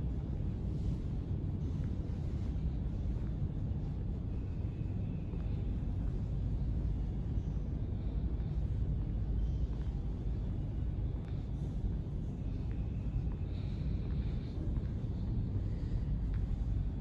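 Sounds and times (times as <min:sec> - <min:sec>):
low rumble of station background noise: 0:00.0 - 0:17.0.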